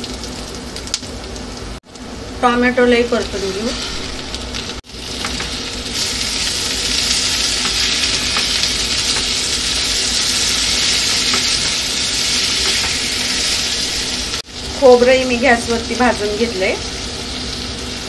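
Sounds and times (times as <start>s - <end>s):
vegetables sizzling in hot oil: 0.0s - 18.0s.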